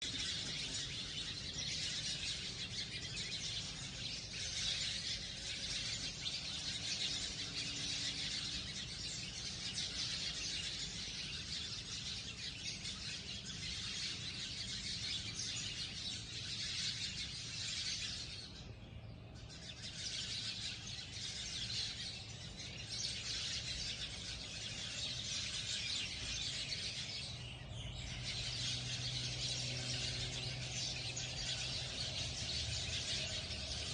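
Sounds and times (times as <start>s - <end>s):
flock of sparrows chirping: 0.0s - 33.9s.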